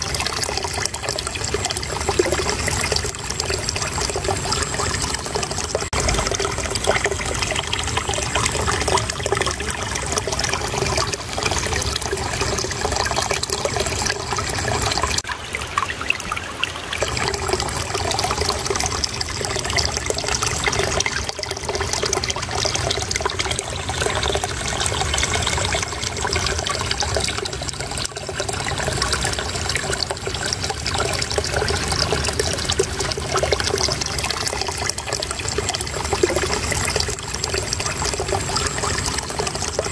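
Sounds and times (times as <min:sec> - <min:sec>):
shallow water babbling: 0:00.0 - 0:39.9.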